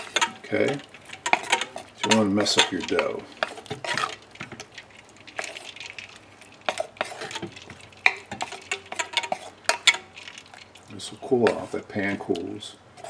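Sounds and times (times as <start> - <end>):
wooden spoon scraping a pan: 0.0 - 13.0.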